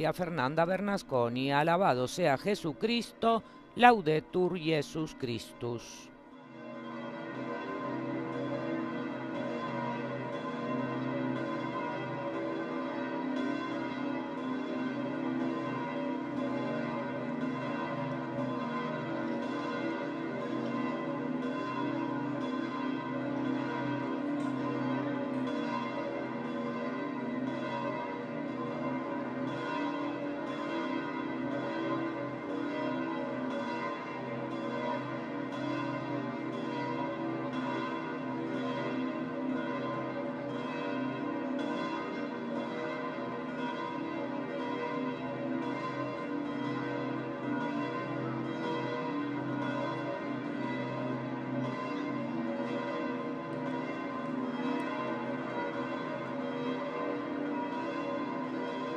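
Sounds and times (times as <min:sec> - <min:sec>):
large church bells ringing: 0:00.0 - 0:58.9.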